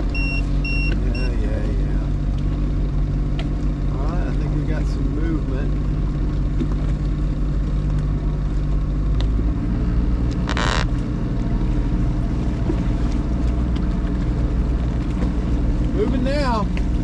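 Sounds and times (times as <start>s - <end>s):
boat engine running under load: 0.0s - 17.0s.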